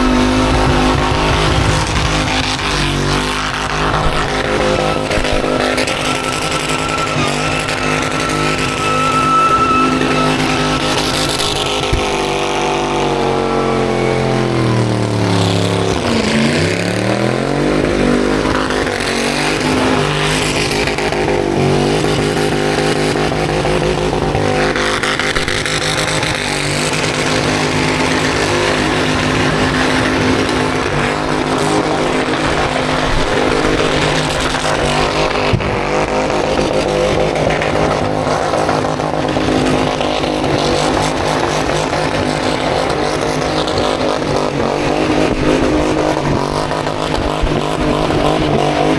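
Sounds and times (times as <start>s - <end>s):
car engines revving hard: 0.0s - 48.9s.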